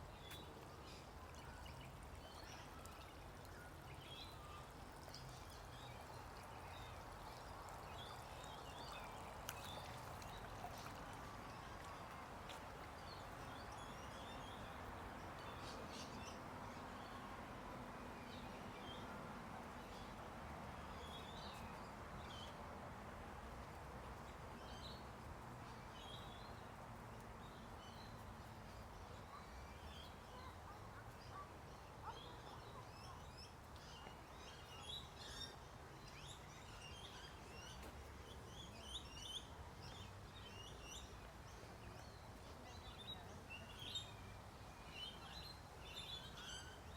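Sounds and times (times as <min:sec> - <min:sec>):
faint steady background noise: 0:00.0 - 0:46.9.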